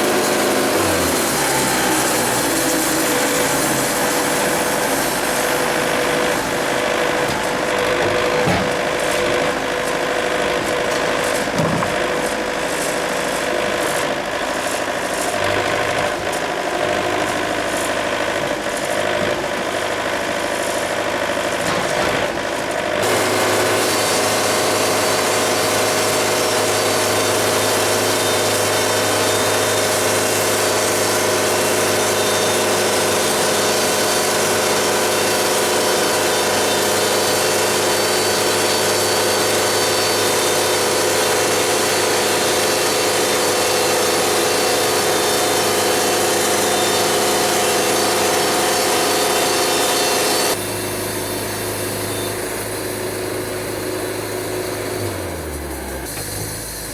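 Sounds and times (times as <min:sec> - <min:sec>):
band sawmill running: 0:00.0 - 0:56.9.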